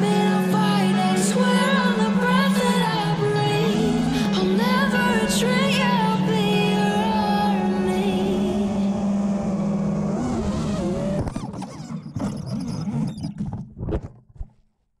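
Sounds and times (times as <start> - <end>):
quadcopter motors whining: 0.0 - 13.2.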